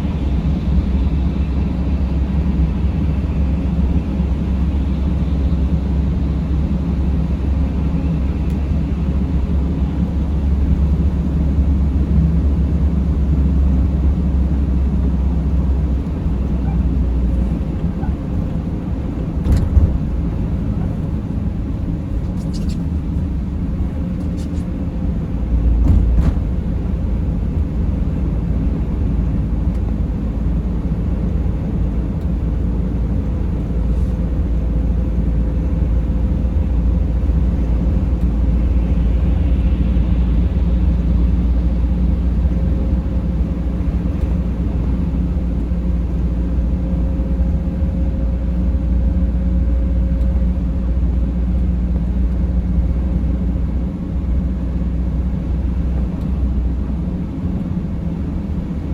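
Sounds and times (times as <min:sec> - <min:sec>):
faint steady whine: 0:00.0 - 0:54.0
engine and road rumble: 0:00.0 - 0:58.9.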